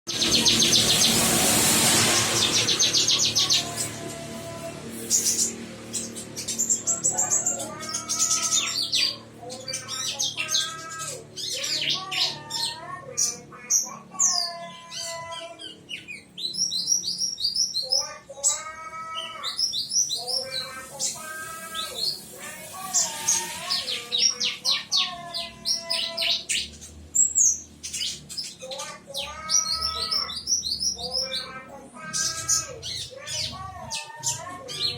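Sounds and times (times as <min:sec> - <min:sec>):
birds singing rapid repeated notes: 0:00.1 - 0:34.9.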